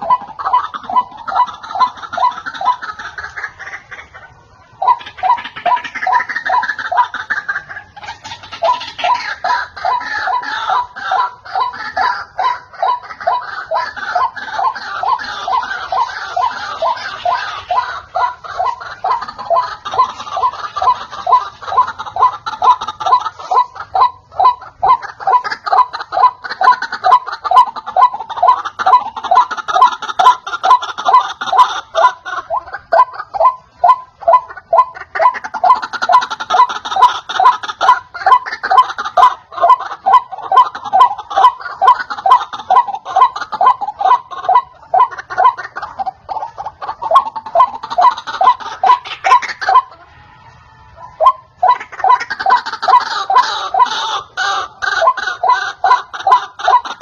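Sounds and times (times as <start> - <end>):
waterhen calling: 0.0 - 57.0.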